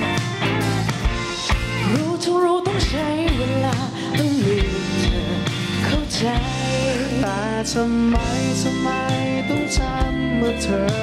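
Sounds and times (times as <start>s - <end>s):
bass guitar: 0.0s - 11.0s
drums: 0.0s - 11.0s
electric guitars: 0.0s - 11.0s
sliding lead melody: 0.0s - 11.0s.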